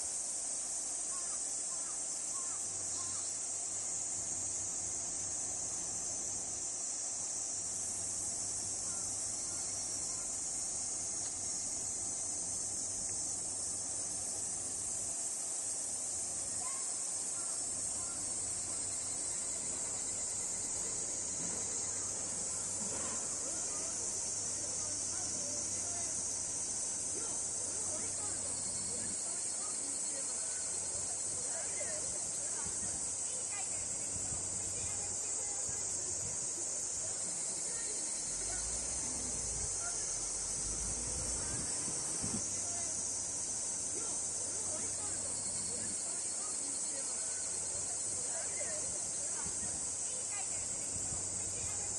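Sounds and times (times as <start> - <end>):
cicadas buzzing: 0.0 - 51.9
insects chorus: 0.0 - 51.9.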